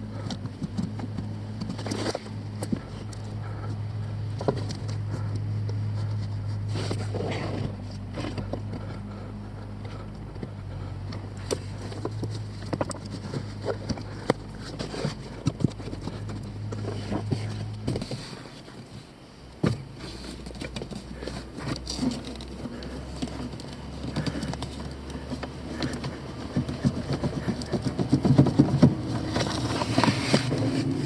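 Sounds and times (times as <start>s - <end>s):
hand tools clicking and knocking: 0.0s - 6.3s, 6.9s - 18.9s, 19.6s - 31.0s
steady low hum: 0.0s - 31.0s.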